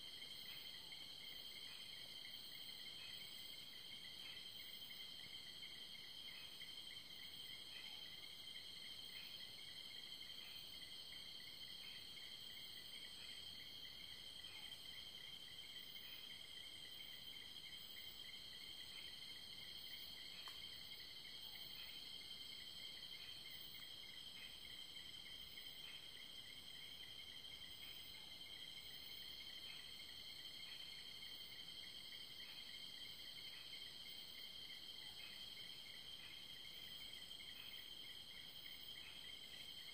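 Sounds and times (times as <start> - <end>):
low pulsing insect chirp: 0.0 - 39.9.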